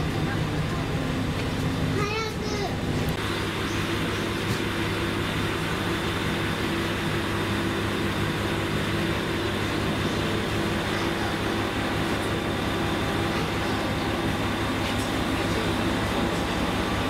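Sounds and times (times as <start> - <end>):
diesel engine idling hum: 0.0 - 17.0.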